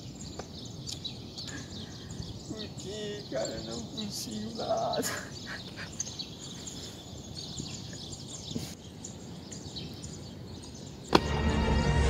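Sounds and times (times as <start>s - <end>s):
bird chirps: 0.0s - 11.4s
outdoor background noise: 0.0s - 12.0s.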